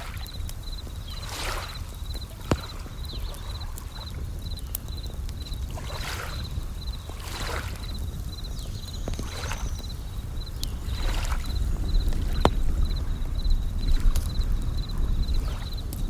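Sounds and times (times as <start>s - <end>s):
waves washing in: 0.0s - 4.4s, 5.7s - 8.3s, 9.2s - 16.0s
campfire crackle: 0.0s - 16.0s
crickets chirping: 0.0s - 16.0s.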